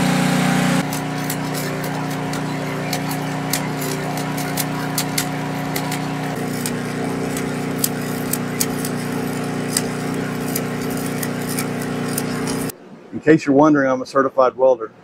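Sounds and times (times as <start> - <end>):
welding arc crackling and popping: 0.0 - 12.7
welding machine hum: 0.0 - 12.7.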